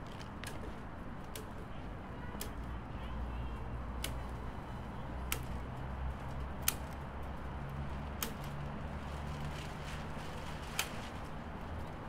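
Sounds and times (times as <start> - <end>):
low city traffic rumble: 0.0 - 12.0.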